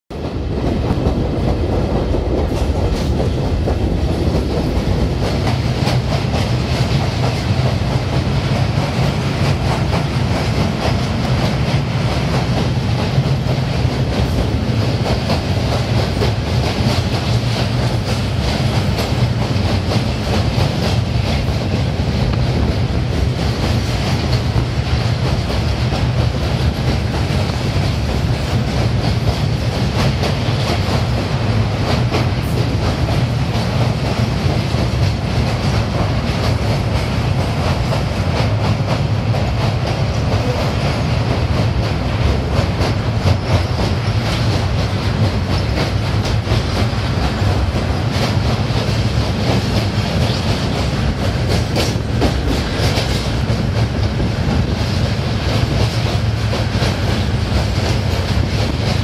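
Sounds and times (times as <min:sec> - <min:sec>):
train rumbling over bridge: 0:00.1 - 0:59.0.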